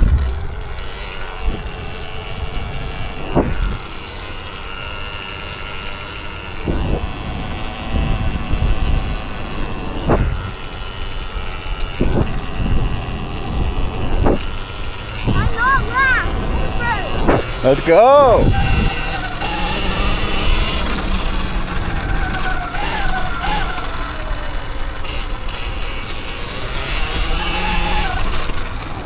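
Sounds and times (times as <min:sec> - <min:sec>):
low rumble of dirt bike: 0:00.0 - 0:29.0.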